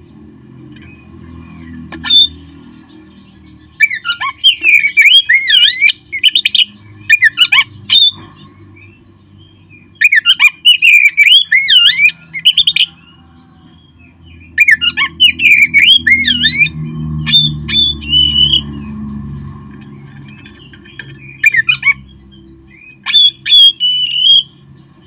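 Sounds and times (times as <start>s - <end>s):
bird singing warbling notes: 0.0s - 25.0s.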